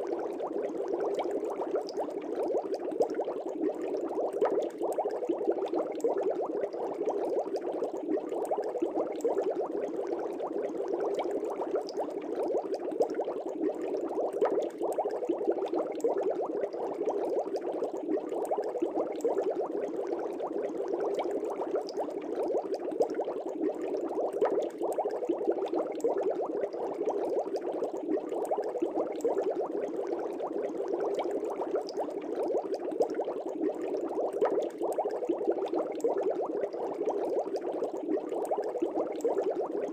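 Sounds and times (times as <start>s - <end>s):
aquarium air bubbles bubbling: 0.0s - 39.9s.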